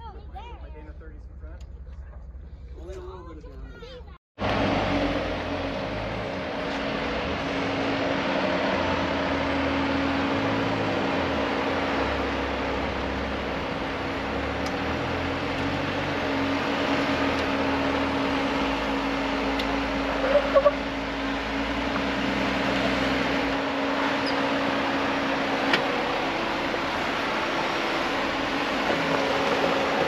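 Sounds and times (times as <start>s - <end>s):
car engine running: 4.4s - 30.0s.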